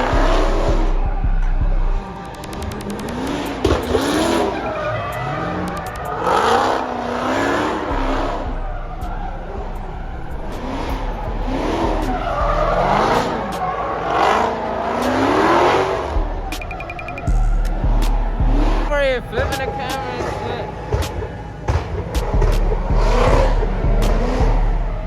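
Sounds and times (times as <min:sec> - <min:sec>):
car engine revving: 0:00.0 - 0:25.0
tyres skidding: 0:00.0 - 0:25.0.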